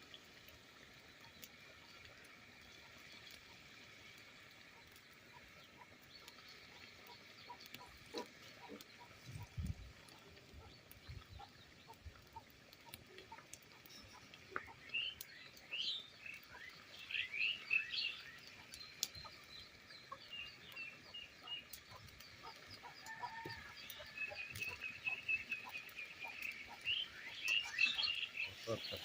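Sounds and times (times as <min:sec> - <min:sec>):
birds chirping: 0:04.2 - 0:29.0.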